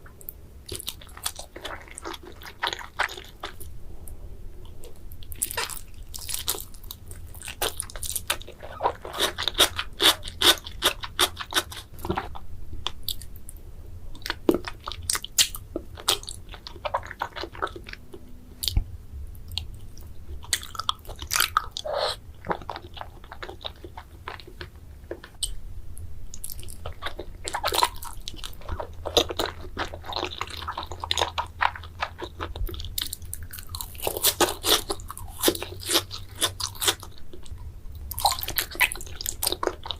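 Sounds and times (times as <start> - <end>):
wet chewing with crunches: 0.0 - 3.8, 4.6 - 13.5, 14.2 - 25.6, 26.3 - 39.9.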